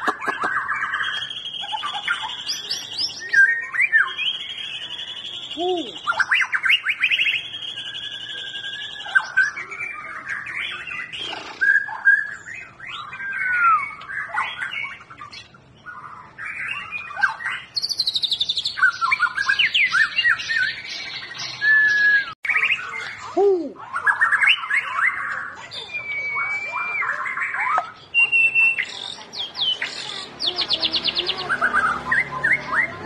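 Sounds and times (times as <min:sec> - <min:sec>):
songbird singing whistles and trills: 0:00.3 - 0:33.0.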